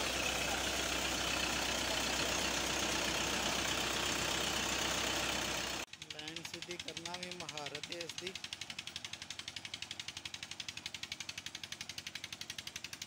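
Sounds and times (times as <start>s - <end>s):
tractor engine hum: 0.0s - 13.0s.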